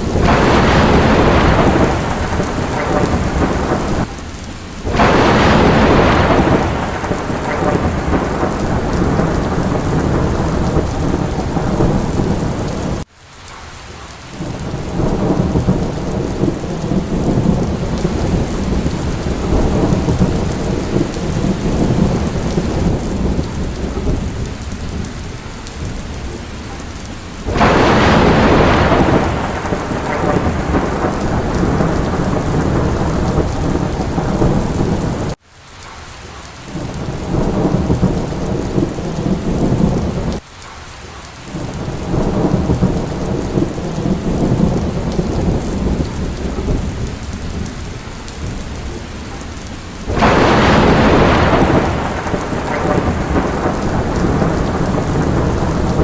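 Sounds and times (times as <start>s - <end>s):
loud thunderclap: 0.0s - 4.2s, 4.9s - 13.1s, 14.4s - 26.8s, 27.4s - 35.4s, 36.7s - 40.4s, 41.5s - 47.8s, 50.0s - 56.0s
rolling thunder rumble: 0.0s - 13.1s, 14.4s - 35.4s, 36.7s - 40.4s, 41.5s - 56.0s
steady rain: 0.0s - 56.0s.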